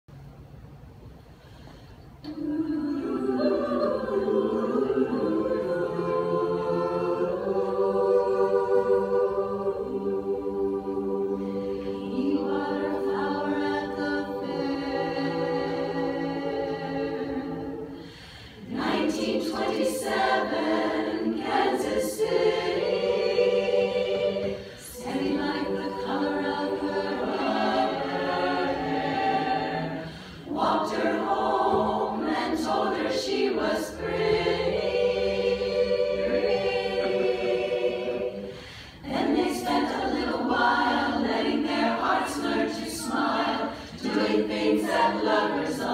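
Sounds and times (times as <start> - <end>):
women's chorus singing a cappella: 2.1 - 45.9.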